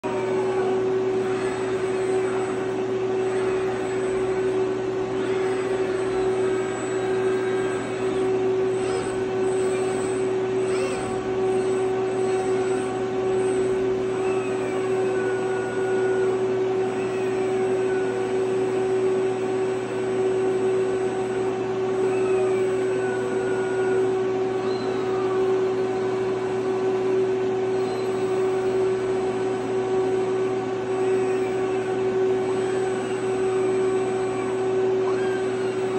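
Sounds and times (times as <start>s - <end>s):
loud steady hum: 0.0s - 35.9s
servo motors whining: 0.0s - 35.9s.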